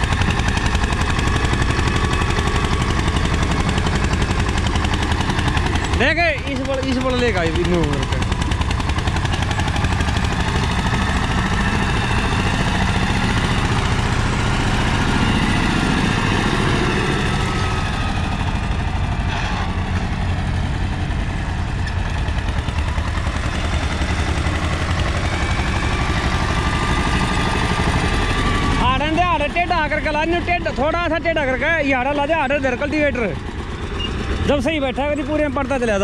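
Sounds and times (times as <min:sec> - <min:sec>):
tractor diesel engine chugging: 0:00.0 - 0:36.0.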